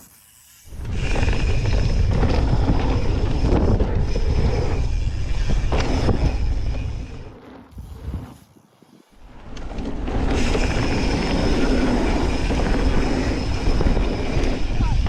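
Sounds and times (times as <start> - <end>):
wind buffeting microphone: 0.7 - 8.4, 9.2 - 15.0
bike tyre rumble: 0.7 - 15.0.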